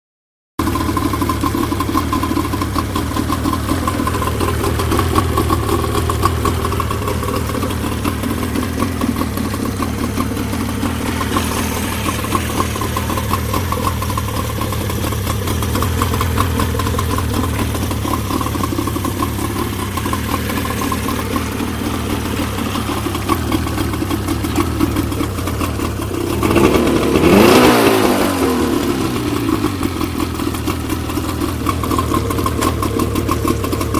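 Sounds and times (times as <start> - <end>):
outboard motor running: 0.6 - 33.9.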